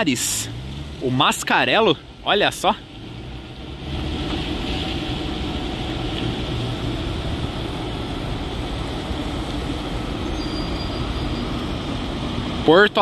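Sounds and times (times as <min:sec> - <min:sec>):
bus diesel engine droning: 0:00.0 - 0:13.0
tyres rolling on wet pavement: 0:00.0 - 0:13.0.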